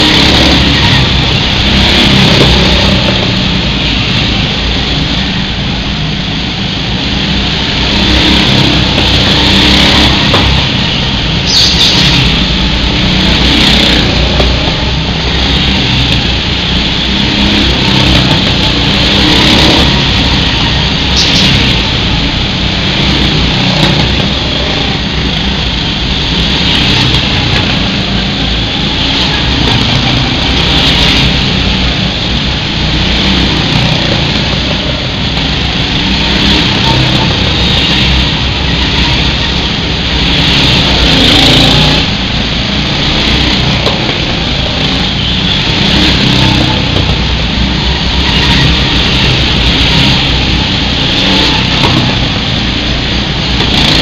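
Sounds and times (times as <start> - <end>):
go-kart engines passing: 0.0 - 54.0.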